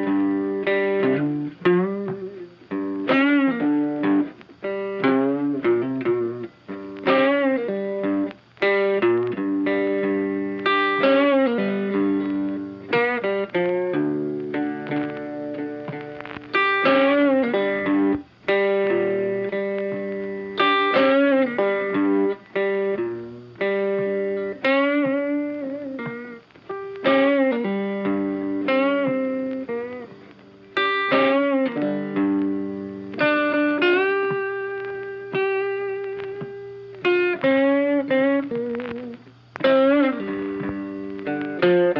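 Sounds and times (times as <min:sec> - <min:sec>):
plucked guitar melody: 0:00.0 - 0:41.9.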